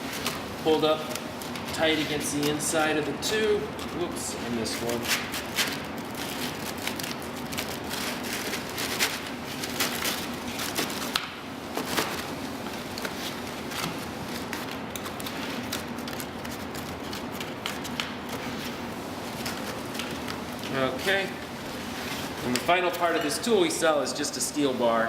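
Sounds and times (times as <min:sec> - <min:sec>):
steady background hiss: 0:00.0 - 0:16.3, 0:17.0 - 0:25.0.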